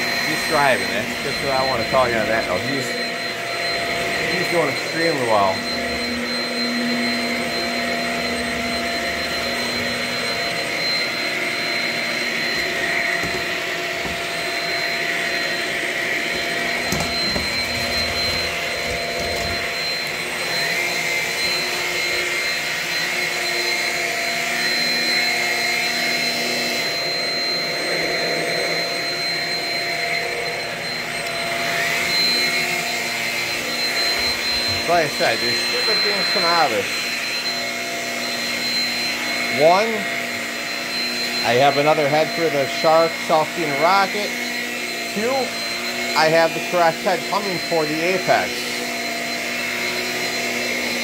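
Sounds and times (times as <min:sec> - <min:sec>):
stick vacuum running: 0:00.0 - 0:51.0.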